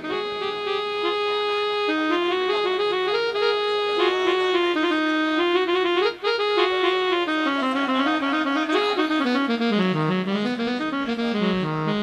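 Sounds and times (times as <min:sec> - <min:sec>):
reedy instrumental melody: 0:00.0 - 0:12.0.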